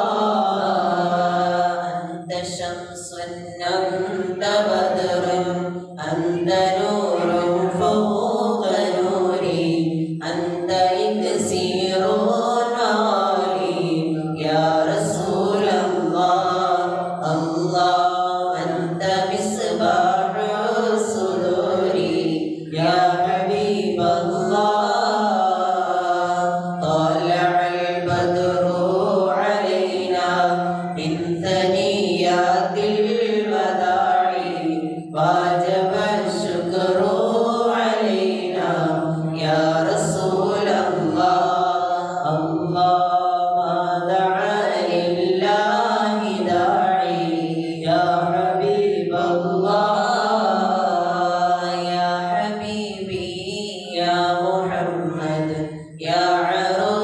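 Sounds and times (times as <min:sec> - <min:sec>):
man chanting into a microphone: 0:00.0 - 0:57.0.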